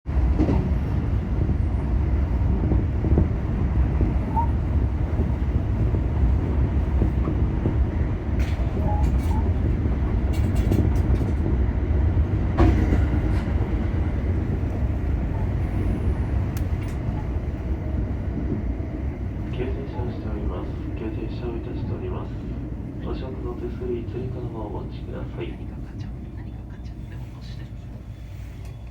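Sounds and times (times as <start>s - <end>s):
electric train rumbling: 0.1s - 28.9s.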